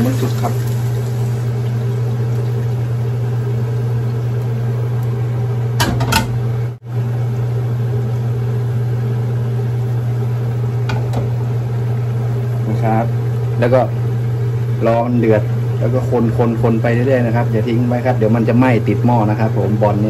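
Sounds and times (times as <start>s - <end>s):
kitchen fan motor humming: 0.0s - 20.0s.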